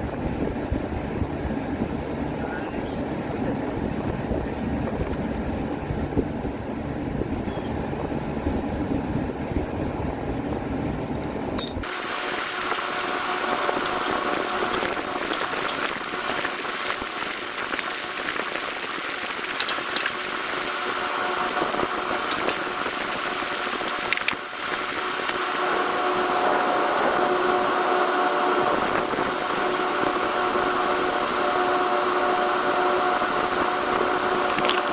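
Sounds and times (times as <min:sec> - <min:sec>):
low rushing fan: 0:00.0 - 0:34.9
steady machine hum: 0:00.0 - 0:34.9.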